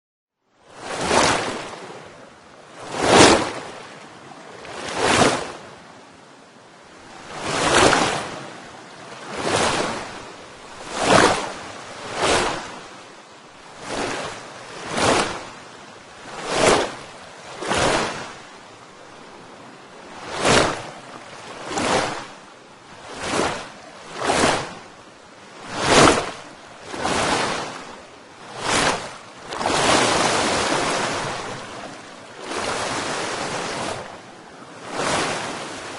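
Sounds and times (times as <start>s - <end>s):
rushing water surges: 0.8s - 35.9s.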